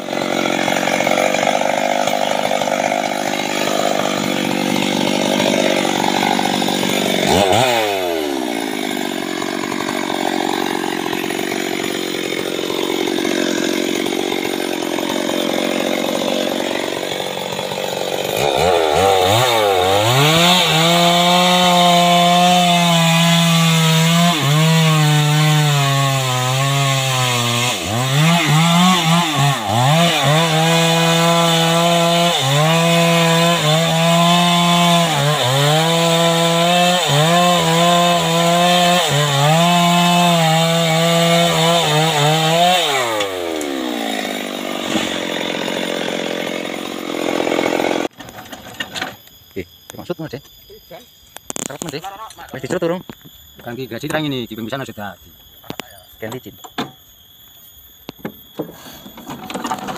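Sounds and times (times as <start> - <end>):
chainsaw cutting tree trunk: 0.0 - 48.2.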